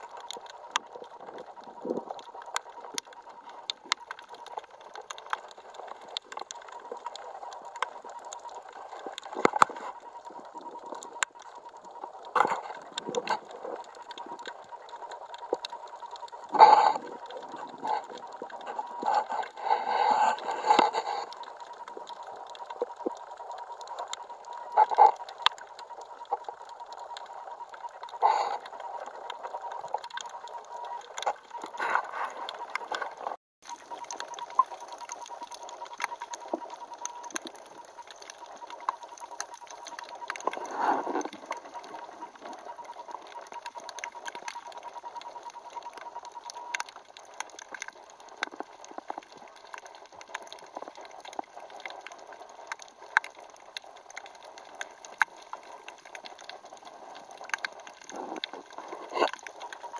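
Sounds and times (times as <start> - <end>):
crackling clicks: 0.0 - 59.9.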